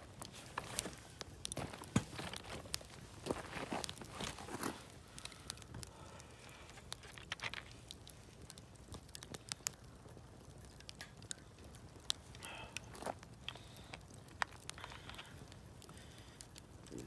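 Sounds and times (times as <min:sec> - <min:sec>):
campfire crackling: 0:00.0 - 0:17.0
fire pops and snaps: 0:00.0 - 0:17.0.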